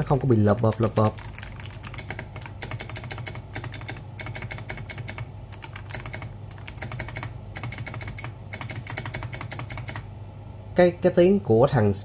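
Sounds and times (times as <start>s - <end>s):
mechanical keyboard typing: 0.0s - 10.0s.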